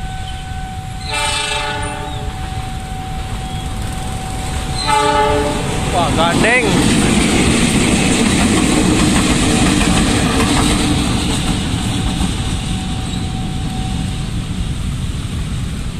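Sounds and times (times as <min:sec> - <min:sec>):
locomotive engine rumble: 0:00.0 - 0:15.9
train wheels on rails: 0:00.0 - 0:15.9.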